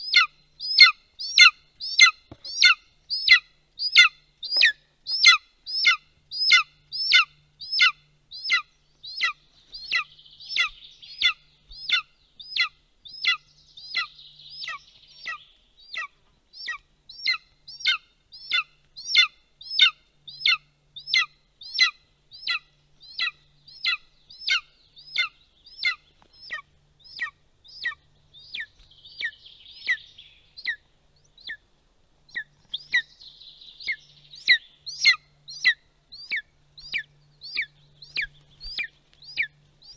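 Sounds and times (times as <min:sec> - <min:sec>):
eagle calling: 0:00.0 - 0:39.9
faint twittering: 0:00.0 - 0:39.9.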